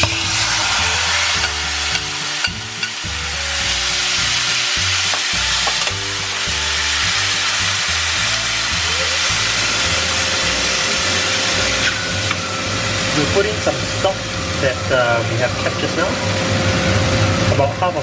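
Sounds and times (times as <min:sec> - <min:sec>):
mushrooms sizzling in butter: 0:00.0 - 0:17.7.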